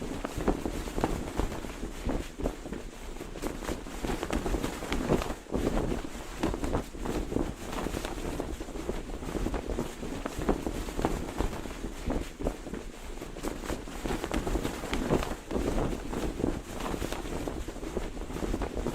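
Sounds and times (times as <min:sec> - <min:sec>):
cloth flag flapping: 0:00.0 - 0:18.9.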